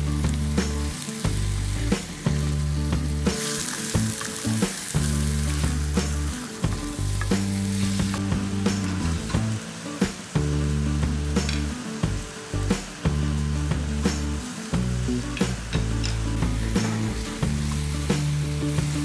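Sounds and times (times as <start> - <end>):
background music with bass: 0.0 - 19.0
food sizzling in oil: 0.0 - 19.0.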